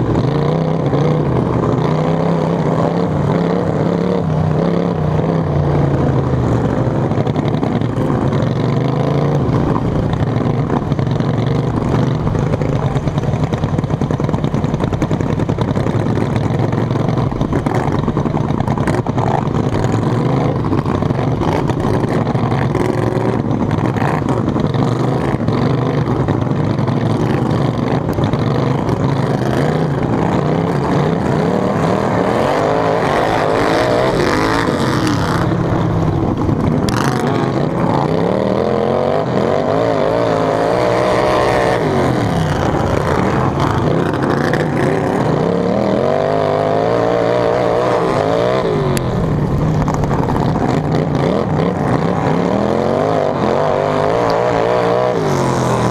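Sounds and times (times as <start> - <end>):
lawn mower engine racing: 0.0 - 55.9
other mower engines nearby: 0.0 - 55.9.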